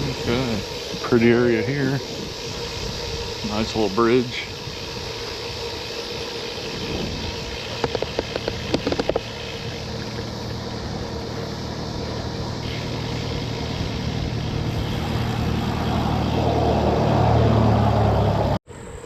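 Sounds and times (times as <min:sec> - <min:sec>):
bicycle tyre noise: 0:00.0 - 0:18.6
wind: 0:00.0 - 0:19.0.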